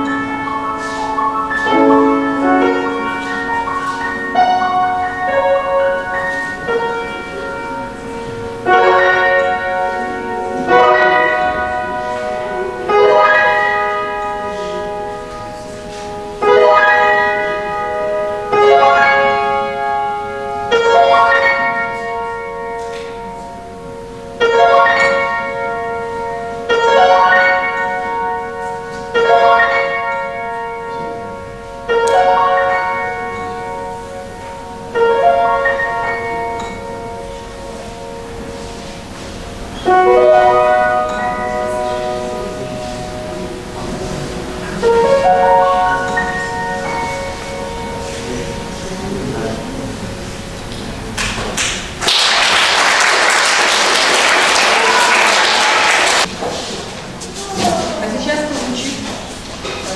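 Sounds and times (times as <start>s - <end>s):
slow ringing chords: 0.0s - 51.2s.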